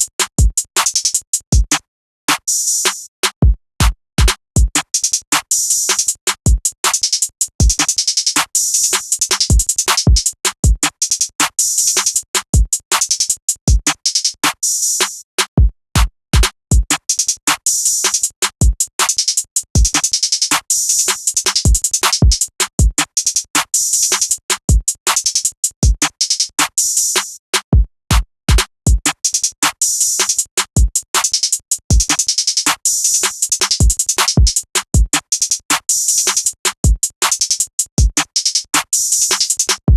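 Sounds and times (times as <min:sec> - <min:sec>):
rapid hi-hats ticking: 0:00.0 - 0:01.8, 0:02.4 - 0:27.4, 0:28.1 - 0:39.9.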